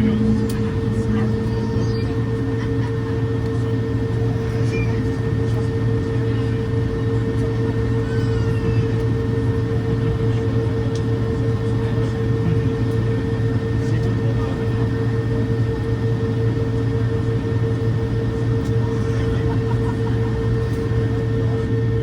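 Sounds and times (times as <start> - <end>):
airliner cabin drone: 0.0 - 22.0.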